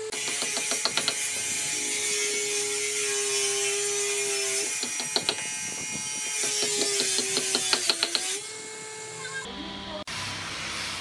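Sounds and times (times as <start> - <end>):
small power tool motor running: 0.0 - 10.1.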